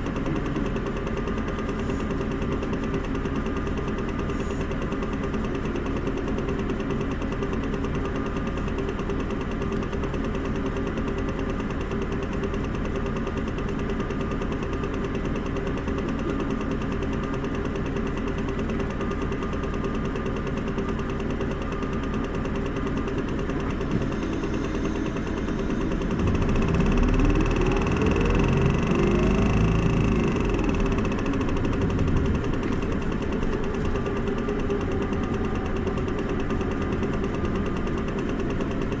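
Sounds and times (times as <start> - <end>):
bus diesel engine idling and accelerating: 0.0 - 39.0.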